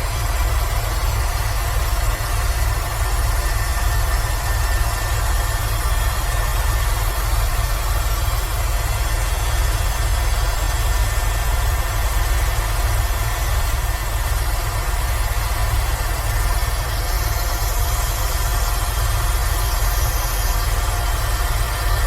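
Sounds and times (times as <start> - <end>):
helicopter rotor and turbine drone: 0.0 - 22.0.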